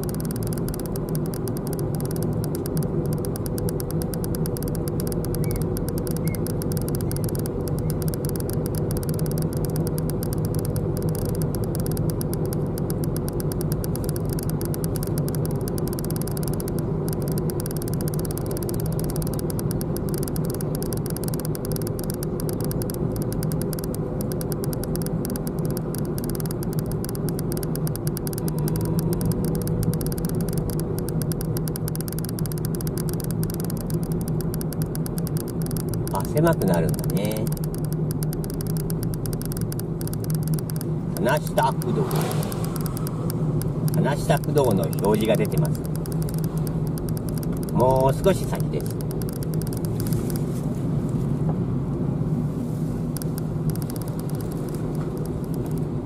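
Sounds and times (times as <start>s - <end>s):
car engine and road noise hum: 0.0s - 56.0s.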